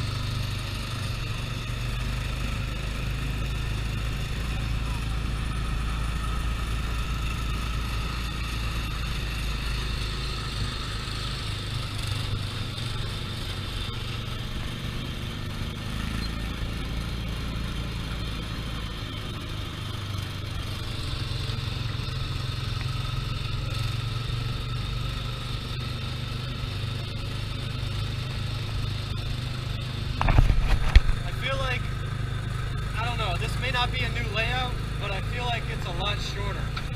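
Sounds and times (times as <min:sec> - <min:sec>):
small gasoline engine running: 0:00.0 - 0:36.9.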